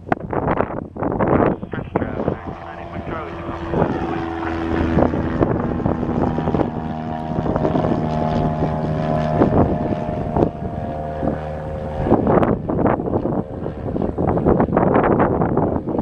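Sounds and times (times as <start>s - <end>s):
airplane engine and propeller droning: 0.0s - 16.0s
wind buffeting microphone: 0.0s - 16.0s.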